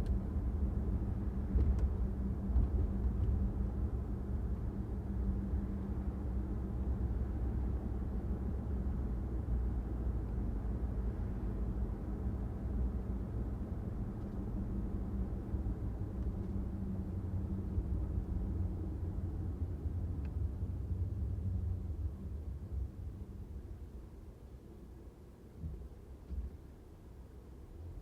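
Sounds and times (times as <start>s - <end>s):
car engine and tyre noise: 0.0s - 28.0s.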